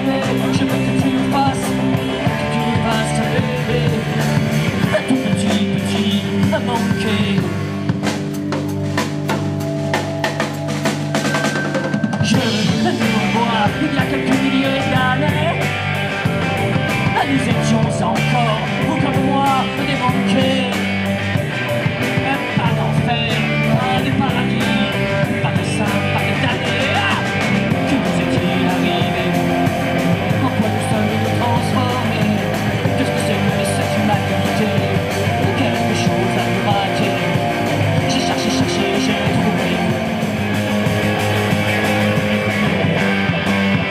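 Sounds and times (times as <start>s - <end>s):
drum kit: 0.0s - 43.9s
electric guitars: 0.0s - 43.9s.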